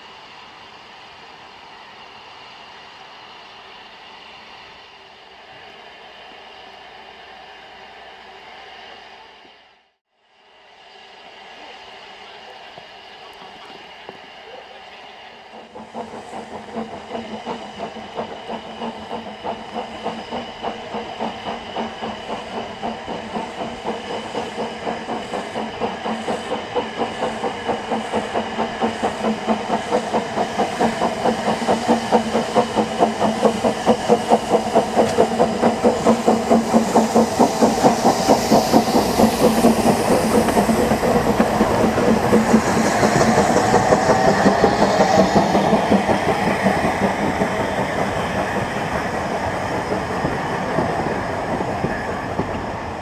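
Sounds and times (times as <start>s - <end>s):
steam locomotive exhaust beats: 0.0s - 53.0s
steam hissing: 10.4s - 53.0s.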